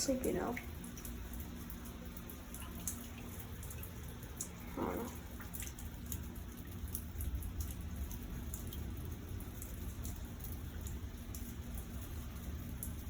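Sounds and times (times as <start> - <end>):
drops ticking nearby: 0.0 - 13.0
rain falling: 0.0 - 13.0.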